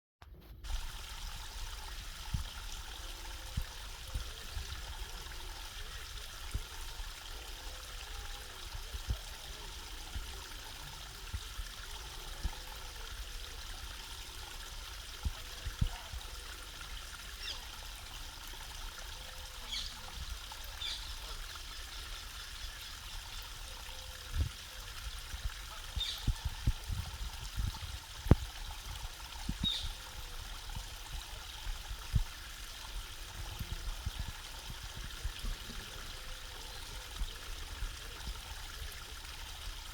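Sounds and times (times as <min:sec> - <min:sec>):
small waterfall trickling: 0:00.6 - 0:39.9.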